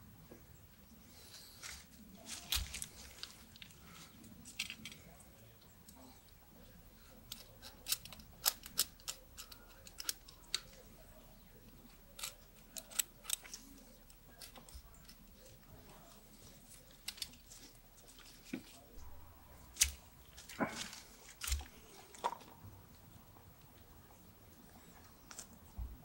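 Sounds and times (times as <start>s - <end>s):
knife carving wood: 1.1s - 22.5s.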